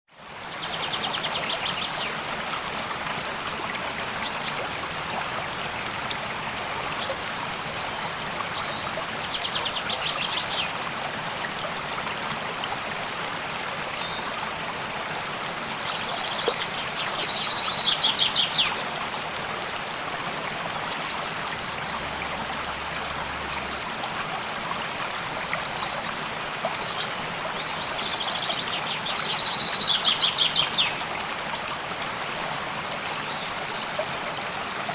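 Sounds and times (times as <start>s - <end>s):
stream running: 0.1s - 34.9s.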